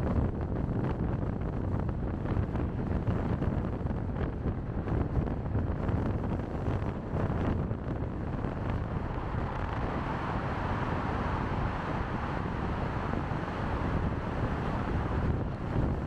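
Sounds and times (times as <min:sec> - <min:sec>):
car road noise: 0:00.0 - 0:16.0
wind rushing over microphone: 0:00.0 - 0:16.0.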